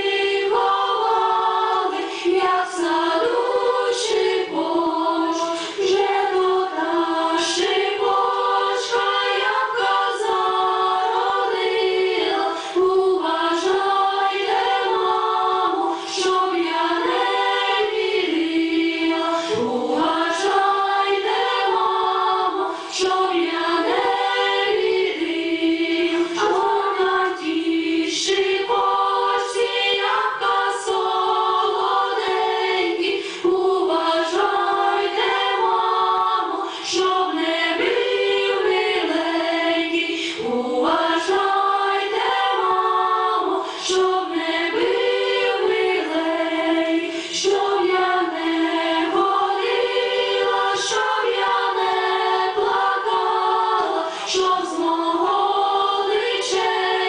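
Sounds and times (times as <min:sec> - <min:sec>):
women's choir singing in harmony: 0:00.0 - 0:57.0.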